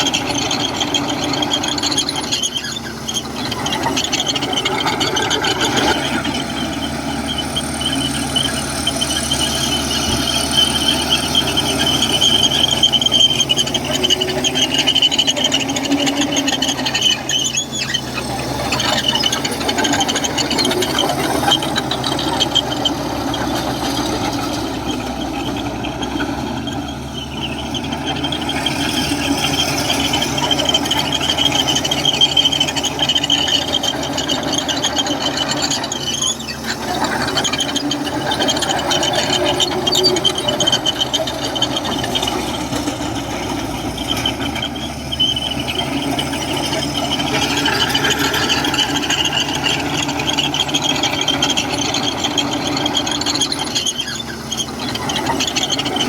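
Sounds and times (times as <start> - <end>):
bulldozer diesel engine running: 0.0 - 56.0
squealing crawler tracks: 0.0 - 56.0.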